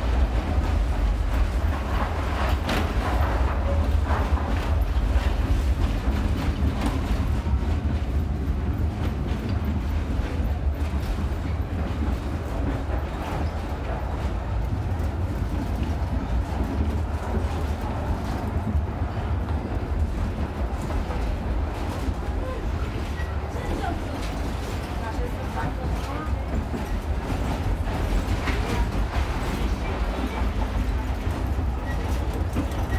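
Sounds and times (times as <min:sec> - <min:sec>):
tram rumbling on rails: 0:00.0 - 0:32.9.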